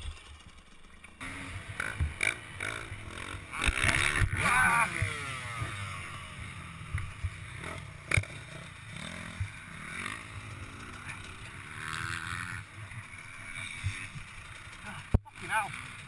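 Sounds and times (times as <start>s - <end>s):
dirt bike engine at low revs: 0.0s - 16.0s.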